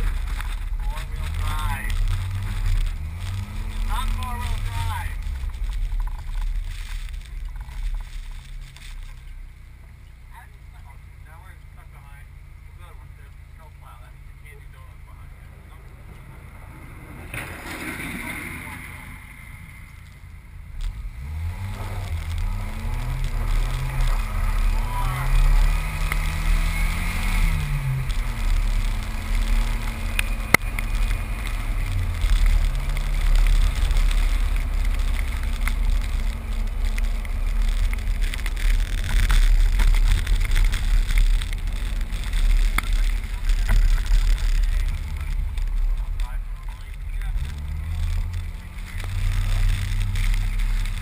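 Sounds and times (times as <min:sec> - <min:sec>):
car engine accelerating: 0:00.0 - 0:51.0
wind and road noise: 0:00.0 - 0:51.0.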